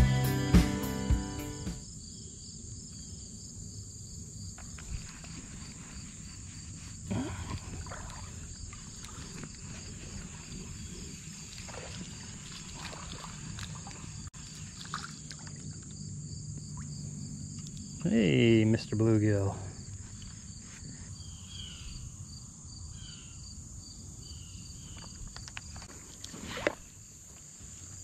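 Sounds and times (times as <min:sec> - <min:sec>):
crickets chirping: 0:01.5 - 0:28.0.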